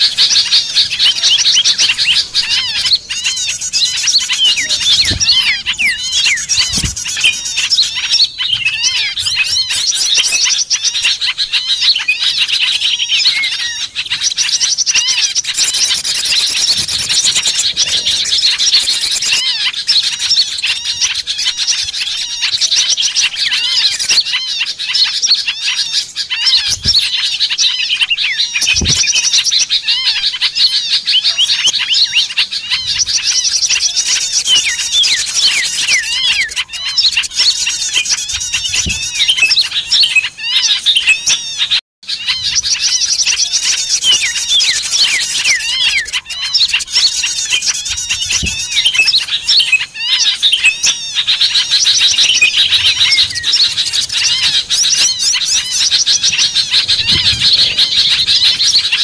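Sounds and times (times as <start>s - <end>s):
songbirds chirping and twittering: 0.0s - 59.0s.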